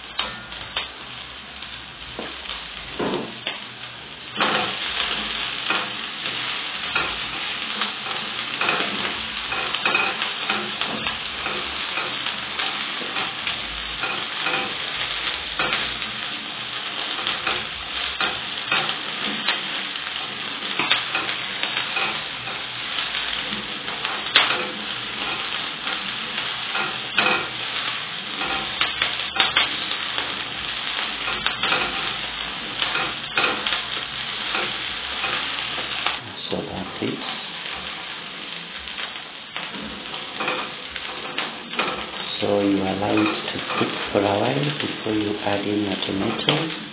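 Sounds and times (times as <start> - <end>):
onions sizzling in hot oil: 0.0 - 46.9.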